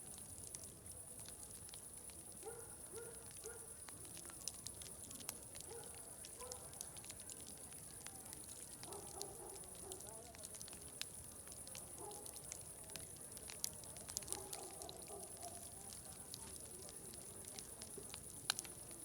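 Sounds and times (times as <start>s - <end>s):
faint hiss: 0.0s - 19.0s
wood fire crackling and popping: 0.0s - 19.0s
faint distant voices: 0.3s - 19.0s.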